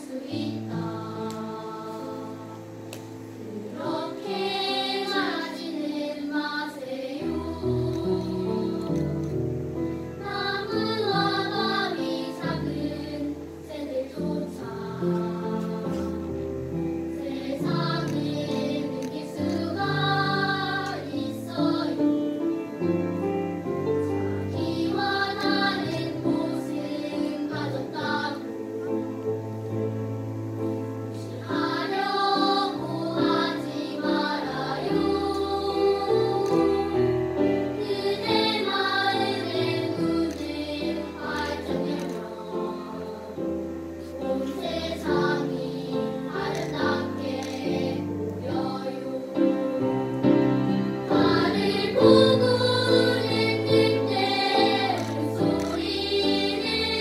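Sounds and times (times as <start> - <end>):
children's choir singing: 0.0 - 57.0
grand piano accompaniment: 0.0 - 57.0.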